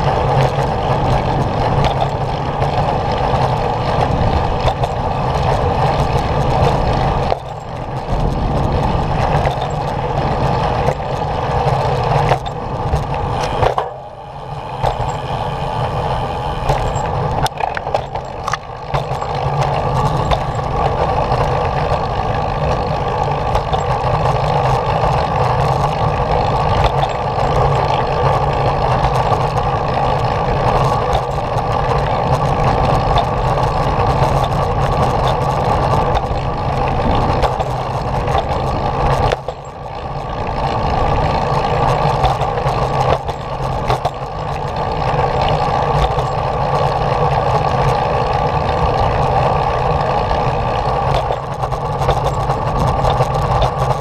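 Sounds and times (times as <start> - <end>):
small vehicle rolling on pavement: 0.0 - 54.0.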